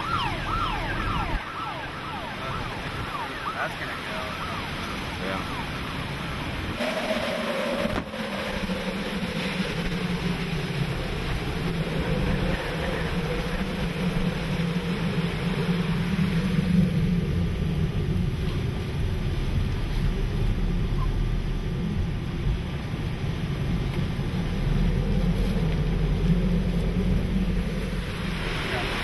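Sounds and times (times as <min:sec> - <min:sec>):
wind and rain buffeting vehicle: 0:00.0 - 0:29.0.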